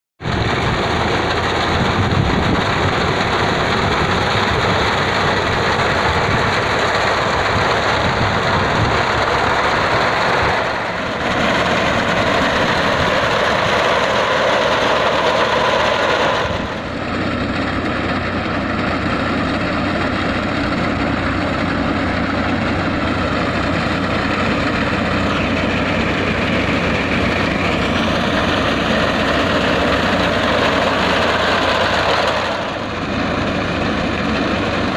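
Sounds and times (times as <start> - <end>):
tractor diesel engine under load: 0.2 - 34.9.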